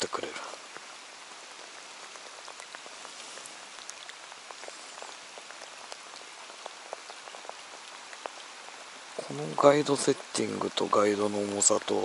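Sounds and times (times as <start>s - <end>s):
rain drops ticking: 0.0s - 12.0s
rain falling on water: 0.0s - 12.0s.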